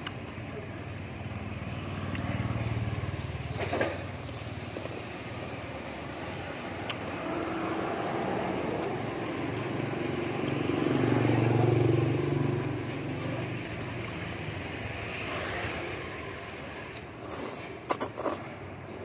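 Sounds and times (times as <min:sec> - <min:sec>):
vehicle engine passing by: 0:01.2 - 0:16.9.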